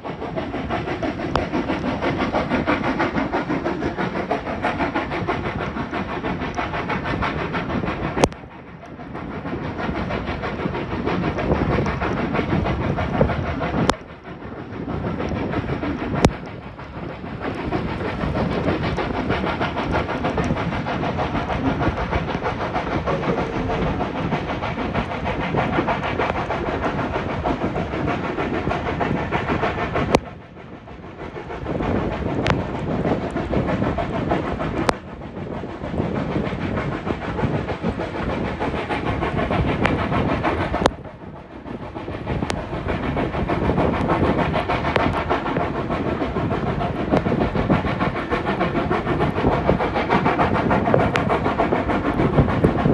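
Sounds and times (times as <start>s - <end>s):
rushing air: 0.0s - 52.9s
train wheels on rails: 0.0s - 52.9s.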